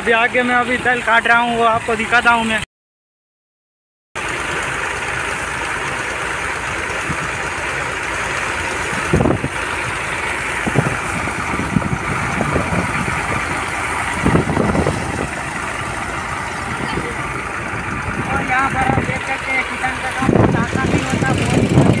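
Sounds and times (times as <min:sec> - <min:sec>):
threshing machine whirring: 0:04.2 - 0:22.0.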